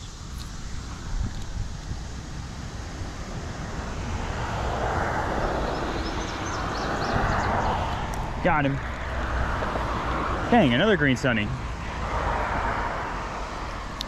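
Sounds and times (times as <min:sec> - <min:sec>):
vehicle passing: 0:00.6 - 0:14.0.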